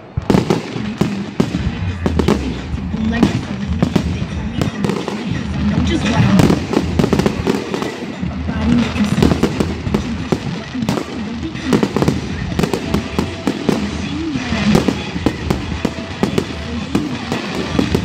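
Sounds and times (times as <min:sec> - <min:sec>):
firework shell bursts and bangs: 0:00.0 - 0:18.0.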